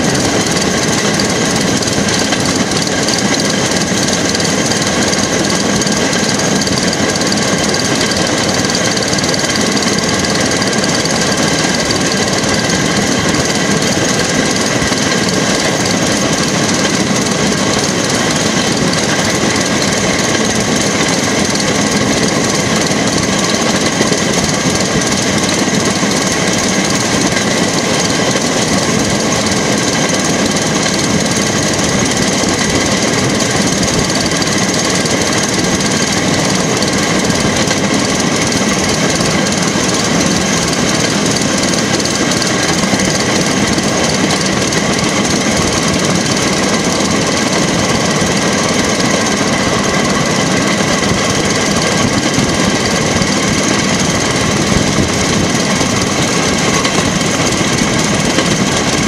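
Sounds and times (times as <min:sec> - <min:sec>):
rattle of car on rails: 0:00.0 - 0:59.0
track car engine running: 0:00.0 - 0:59.0.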